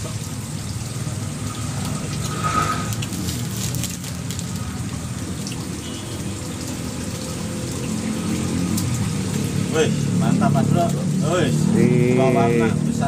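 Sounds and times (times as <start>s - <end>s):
water pouring into a pond: 0.0s - 13.0s.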